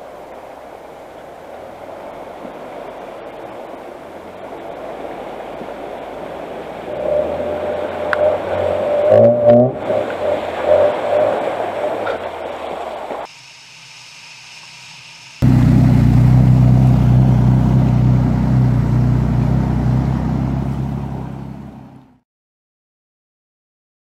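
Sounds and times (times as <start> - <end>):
water surging and splashing: 0.0 - 21.8
road noise: 0.0 - 22.2
vehicle engine humming: 0.6 - 13.3, 14.6 - 22.2.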